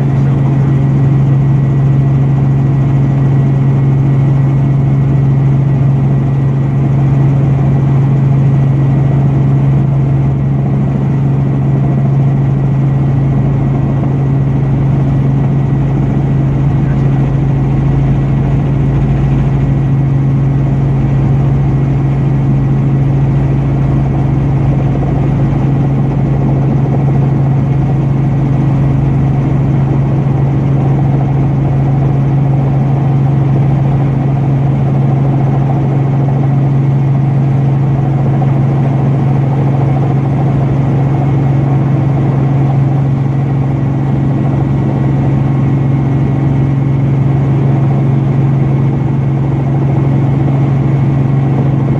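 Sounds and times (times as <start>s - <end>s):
helicopter running: 0.0s - 51.9s.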